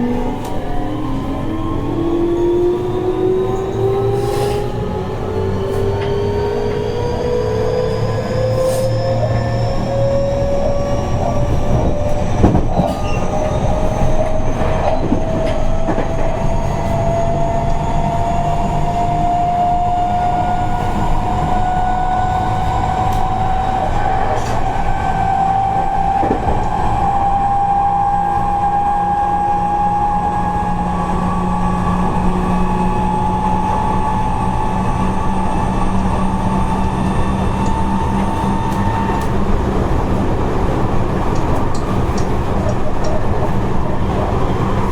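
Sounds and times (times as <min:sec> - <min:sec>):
wheels rumbling on track: 0:00.0 - 0:44.9.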